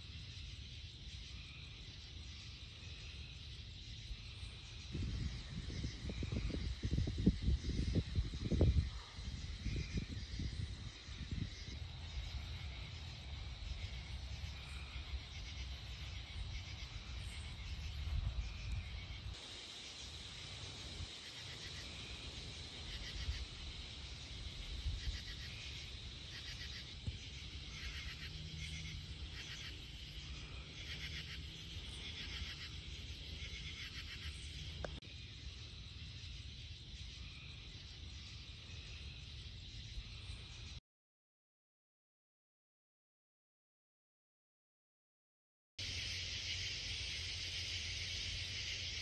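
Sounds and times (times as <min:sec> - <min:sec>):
insects chirping in pulsing trains: 0:00.0 - 0:40.8, 0:45.8 - 0:49.0.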